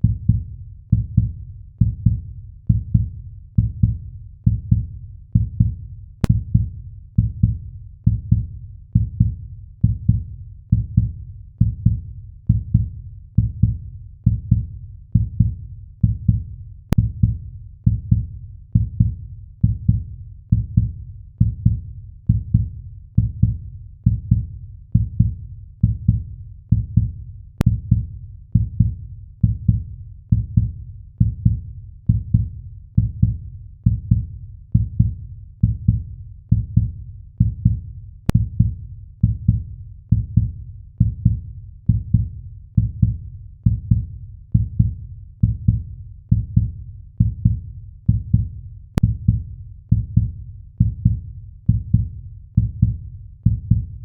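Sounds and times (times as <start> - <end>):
heartbeat double thump: 0.0 - 54.0.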